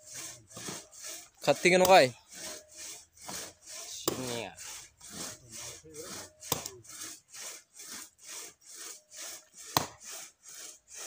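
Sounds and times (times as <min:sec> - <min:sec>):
hand saw cutting wood: 0:00.0 - 0:11.0.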